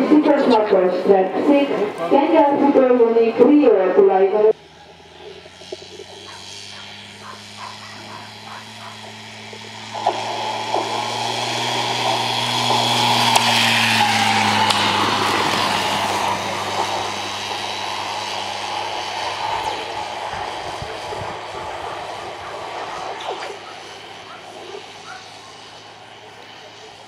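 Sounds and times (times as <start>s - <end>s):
motor hum: 0.0s - 27.0s.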